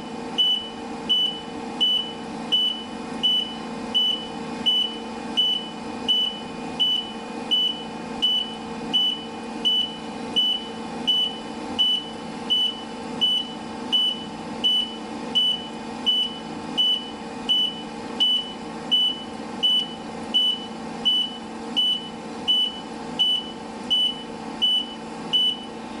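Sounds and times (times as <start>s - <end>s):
truck reversing alarm beeping: 0.0s - 25.8s.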